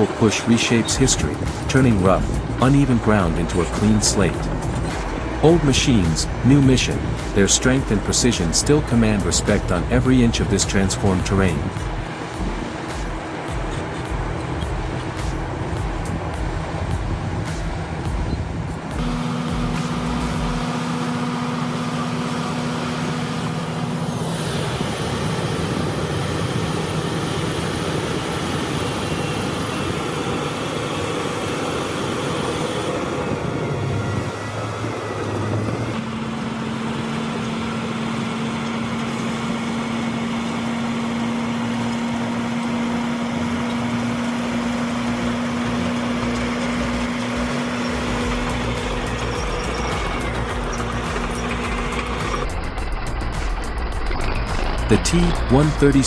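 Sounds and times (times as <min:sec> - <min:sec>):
diesel bulldozer engines droning: 0:00.0 - 0:56.0.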